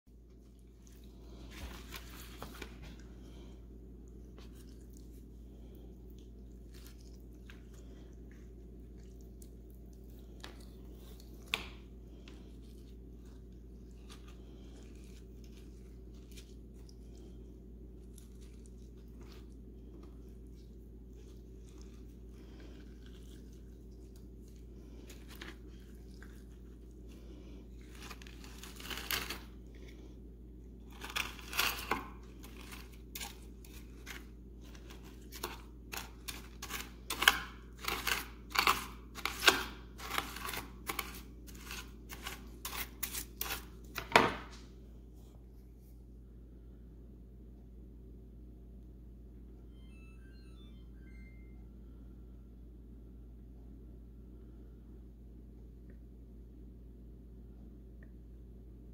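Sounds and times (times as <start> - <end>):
steady low hum: 0.1 - 58.9.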